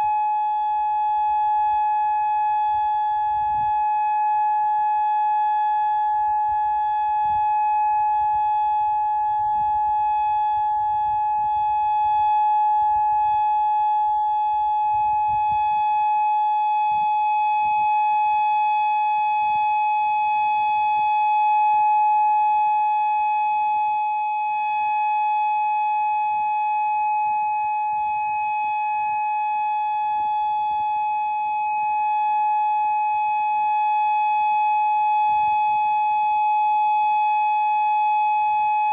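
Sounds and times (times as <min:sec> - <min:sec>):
steady warning siren tone: 0:00.0 - 0:38.9.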